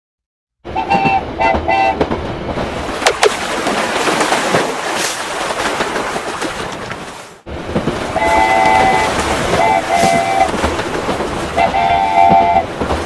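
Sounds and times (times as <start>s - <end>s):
rushing splashing water: 2.5s - 13.0s.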